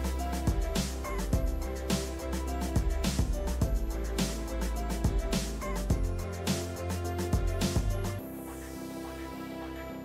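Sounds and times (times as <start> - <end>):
loud music beat: 0.0 - 9.3.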